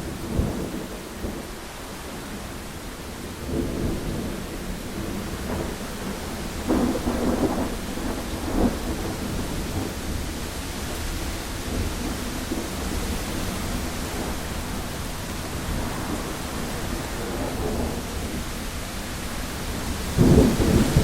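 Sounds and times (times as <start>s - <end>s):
heavy rain on a window: 0.0s - 21.0s
low thunder rumble: 0.0s - 21.0s.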